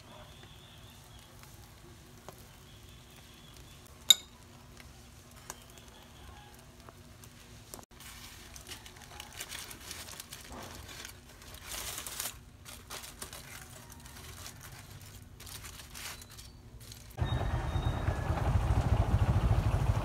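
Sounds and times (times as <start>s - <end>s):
aluminium foil crinkling: 0.0s - 17.2s.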